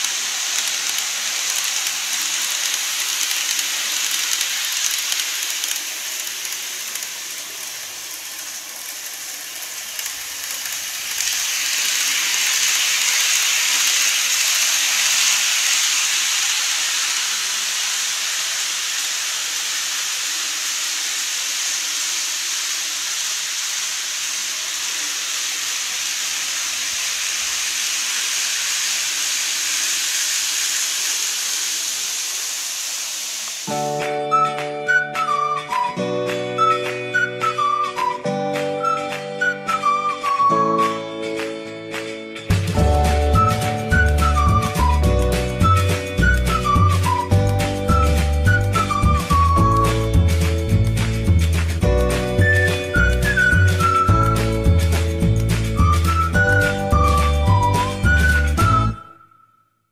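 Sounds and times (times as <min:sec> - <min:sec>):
model train wheels on rail: 0:00.0 - 0:35.9, 0:41.4 - 0:59.1.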